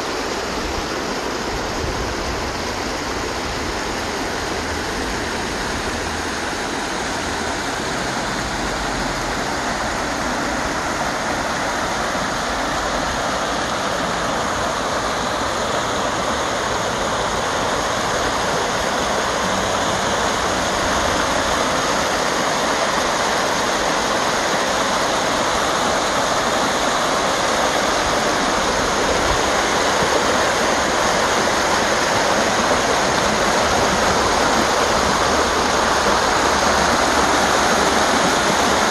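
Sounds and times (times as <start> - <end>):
creek cascading over rocks: 0.0 - 38.9.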